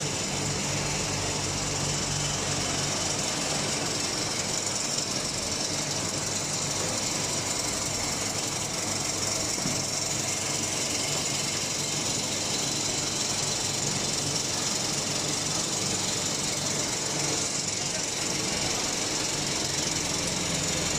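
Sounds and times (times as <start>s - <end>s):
metal chips baler running: 0.0s - 20.9s.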